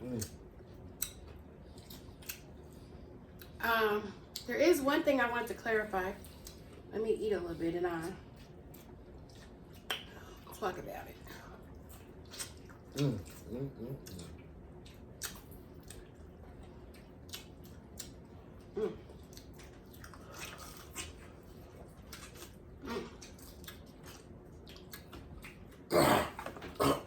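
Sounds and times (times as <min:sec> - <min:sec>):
person chewing food: 0:00.0 - 0:03.6, 0:06.2 - 0:06.9, 0:08.3 - 0:10.5, 0:11.3 - 0:27.0.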